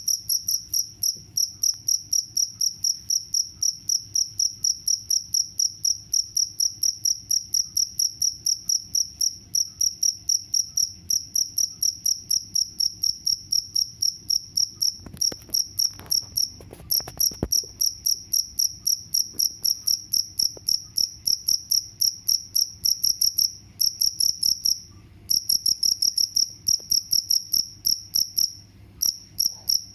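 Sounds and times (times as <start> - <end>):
cricket chirping: 0.0 - 29.9.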